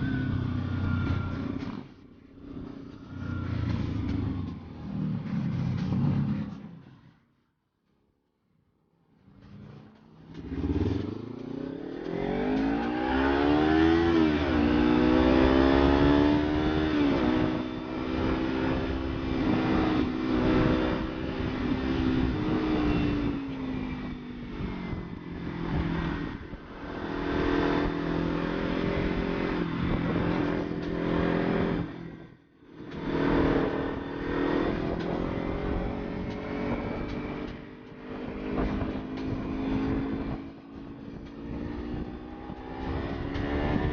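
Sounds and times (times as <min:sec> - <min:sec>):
motorcycle engine accelerating: 0:00.0 - 0:07.1, 0:09.2 - 0:43.9.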